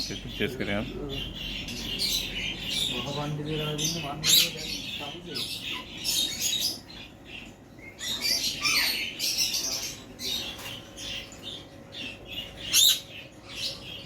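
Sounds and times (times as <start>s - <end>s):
birds squawking and chirping: 0.0s - 14.0s.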